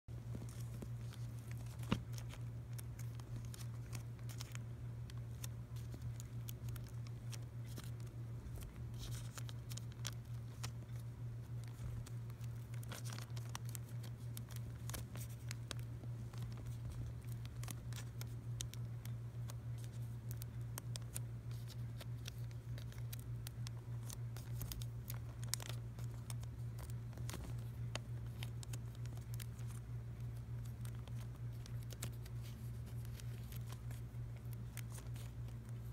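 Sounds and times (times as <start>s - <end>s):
plastic sleeves crinkling: 0.1s - 35.9s
steady low hum: 0.1s - 35.9s.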